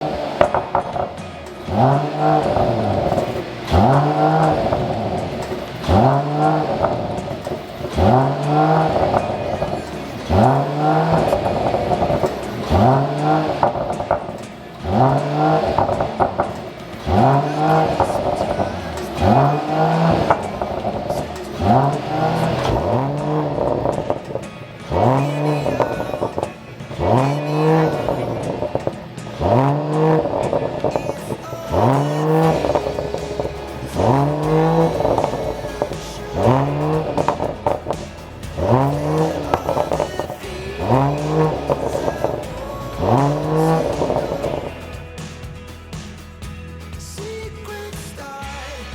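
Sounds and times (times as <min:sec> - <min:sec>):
exhaust popping and crackling: 0:00.0 - 0:48.8
car engine revving: 0:00.0 - 0:48.9.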